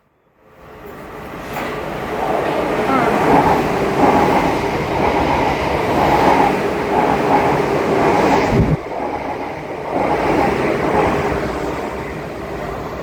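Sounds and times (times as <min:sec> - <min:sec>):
train rumbling on rails: 0:00.2 - 0:13.0.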